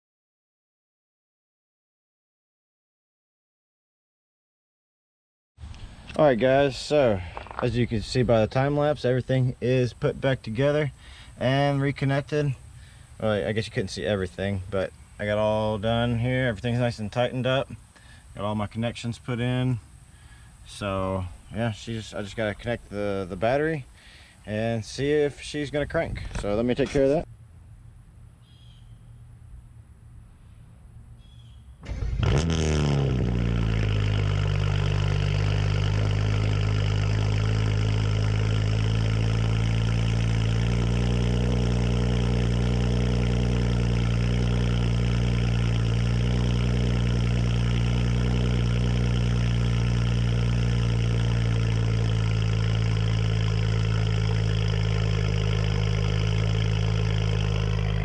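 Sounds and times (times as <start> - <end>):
car engine starting and idling: 5.6 - 27.3, 31.0 - 58.0.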